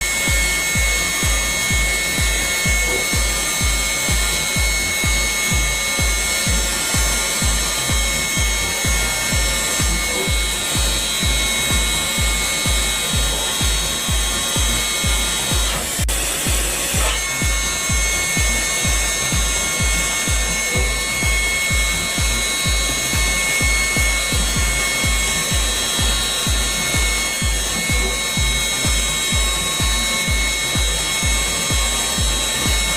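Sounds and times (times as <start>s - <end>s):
machinery whine and rasp: 0.0s - 32.9s
music with thumping beat: 0.0s - 32.9s.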